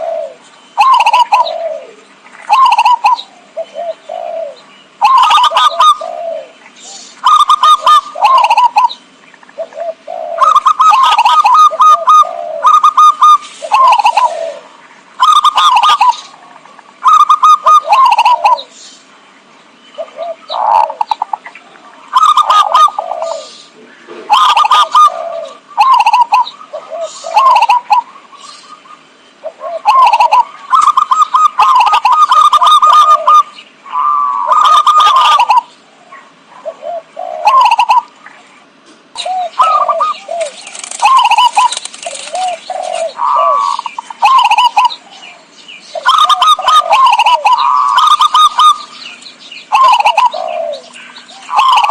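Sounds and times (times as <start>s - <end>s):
dove staccato cooing: 0.0s - 18.8s, 20.0s - 51.9s.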